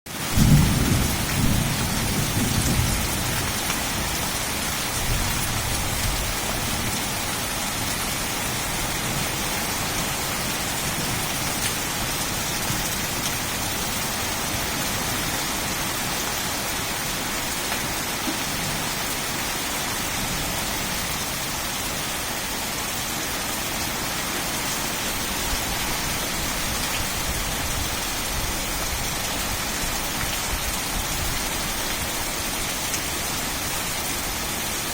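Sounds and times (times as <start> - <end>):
rain falling on leaves: 0.1 - 34.9.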